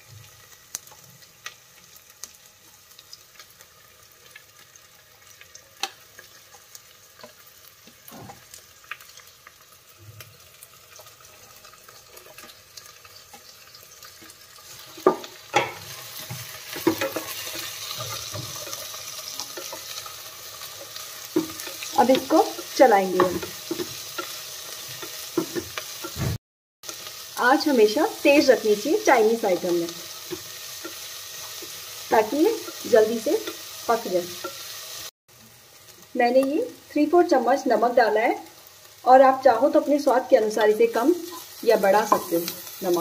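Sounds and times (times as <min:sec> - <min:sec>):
vegetables sizzling in oil: 0:00.0 - 0:43.0.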